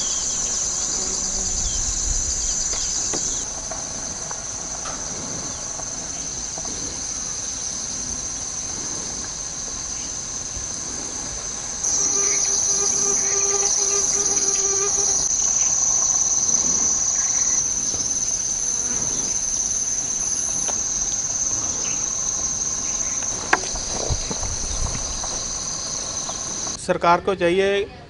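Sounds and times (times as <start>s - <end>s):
insects chirring: 0.0s - 26.8s.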